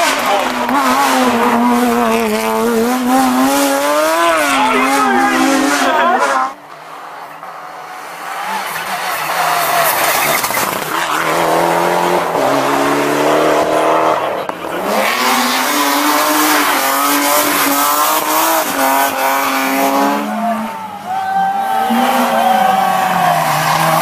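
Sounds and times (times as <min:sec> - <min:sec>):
car engine at high revs: 0:00.0 - 0:20.8, 0:21.6 - 0:24.0
rally car engine accelerating: 0:00.0 - 0:24.0.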